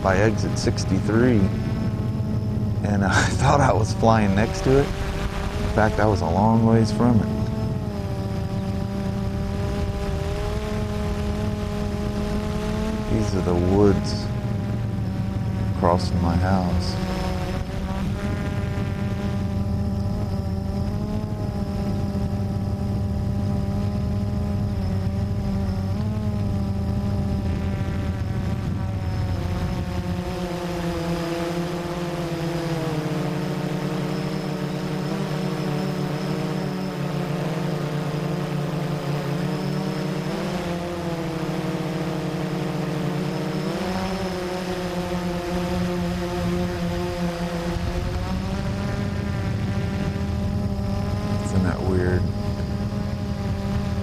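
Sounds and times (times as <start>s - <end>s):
quadcopter motors buzzing: 0.0s - 54.0s.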